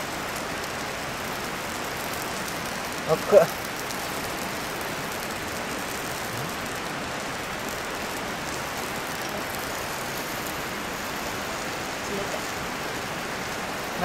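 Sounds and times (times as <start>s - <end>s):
mountain stream flowing: 0.0s - 14.0s.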